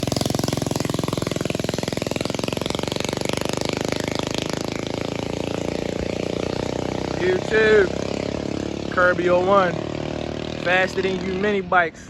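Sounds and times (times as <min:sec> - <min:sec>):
minibike engine running hard: 0:00.0 - 0:12.0.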